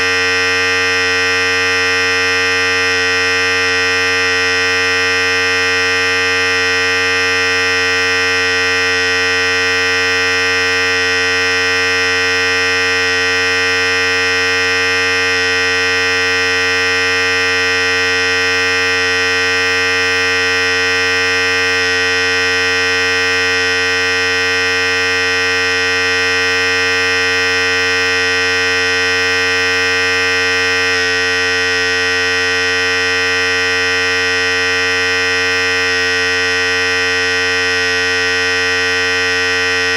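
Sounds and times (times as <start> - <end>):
electric hair clipper buzzing: 0.0 - 39.9.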